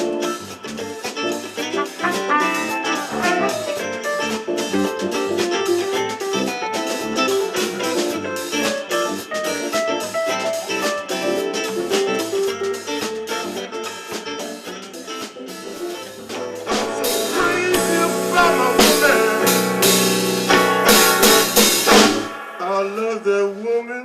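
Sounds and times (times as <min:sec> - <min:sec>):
drum kit: 0:00.0 - 0:23.6
electric guitar: 0:00.0 - 0:23.7.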